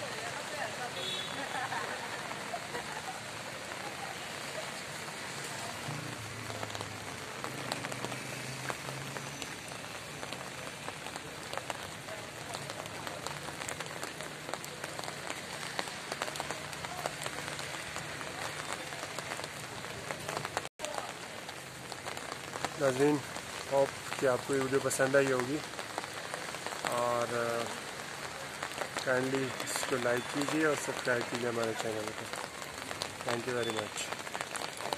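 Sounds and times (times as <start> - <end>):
steady rain on hard surfaces: 0.0 - 34.9.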